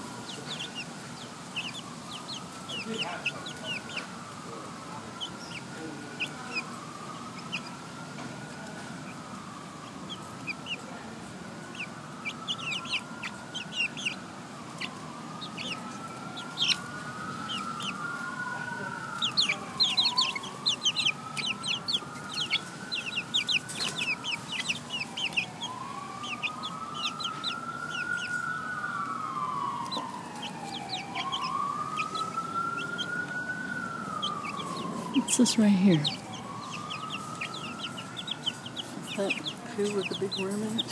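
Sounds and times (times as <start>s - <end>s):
chicks peeping: 0.0s - 40.9s
siren wailing: 0.0s - 40.9s.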